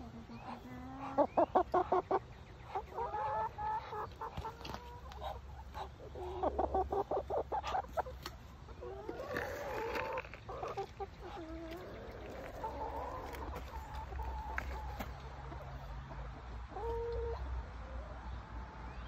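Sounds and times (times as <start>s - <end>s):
hens clucking: 0.0s - 18.6s.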